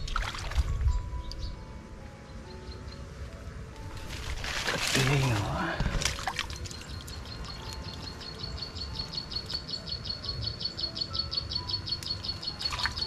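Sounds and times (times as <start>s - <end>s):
insect chirping: 0.9s - 13.0s.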